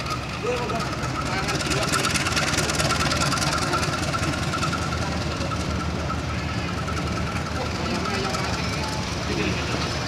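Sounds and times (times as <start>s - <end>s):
wheels rumbling on rails: 0.0s - 10.0s.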